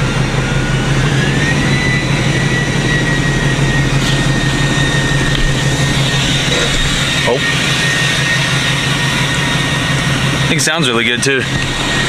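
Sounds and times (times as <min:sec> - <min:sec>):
high engine whine: 0:00.0 - 0:12.0
truck engine droning: 0:00.0 - 0:12.0.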